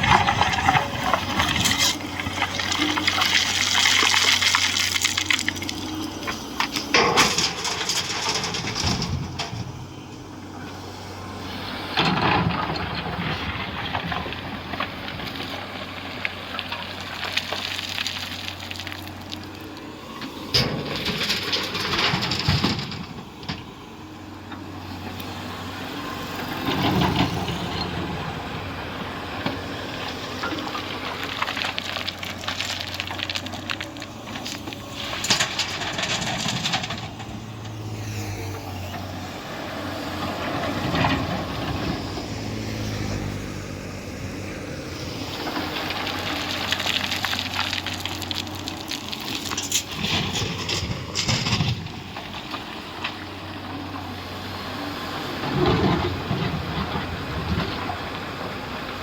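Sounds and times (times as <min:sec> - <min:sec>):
excavator engine humming: 0:00.0 - 0:59.0.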